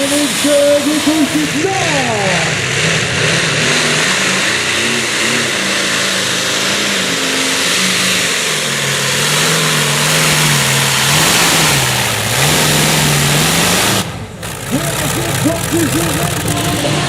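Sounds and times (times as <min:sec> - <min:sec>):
dense roar of noise: 0:00.0 - 0:17.0
tractor engine running loud: 0:00.0 - 0:17.0.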